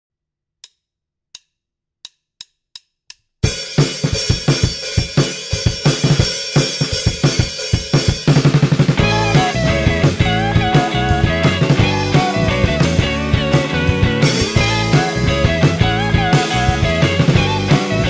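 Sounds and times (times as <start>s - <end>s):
drum kit beat: 3.4s - 18.0s.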